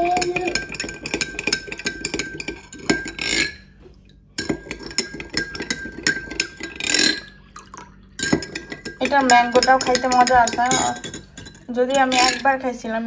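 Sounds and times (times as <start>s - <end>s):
spoon clinking against glass: 0.0s - 3.7s, 4.4s - 12.5s.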